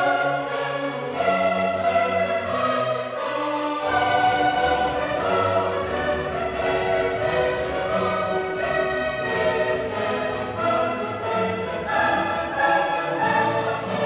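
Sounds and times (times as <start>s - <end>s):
slow orchestral string music: 0.0s - 14.0s.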